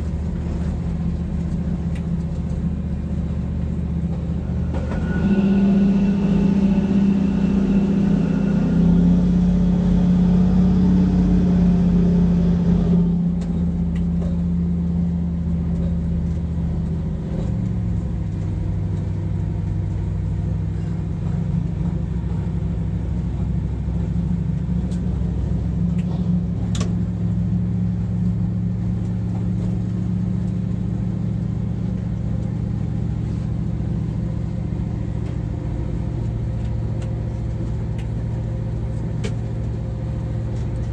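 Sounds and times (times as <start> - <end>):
locomotive engine drone: 0.0 - 40.9.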